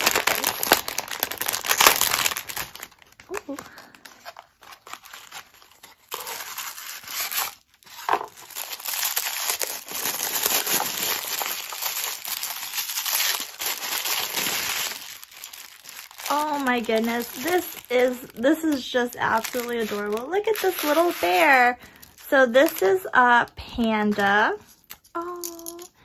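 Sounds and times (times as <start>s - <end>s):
tissue paper crinkling: 0.0s - 22.9s.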